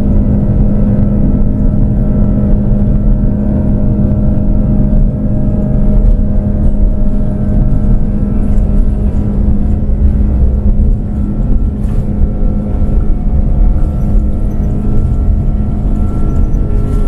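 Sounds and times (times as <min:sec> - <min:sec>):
jet engine drone in cabin: 0:00.0 - 0:17.0.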